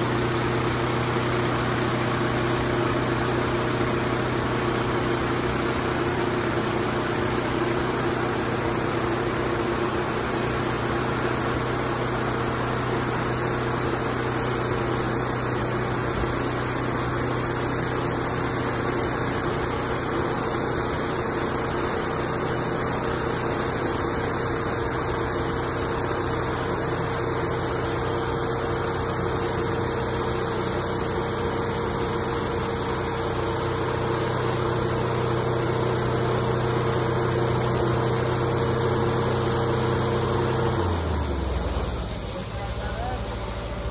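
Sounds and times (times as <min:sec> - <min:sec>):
sawmill engine hum: 0:00.0 - 0:43.9.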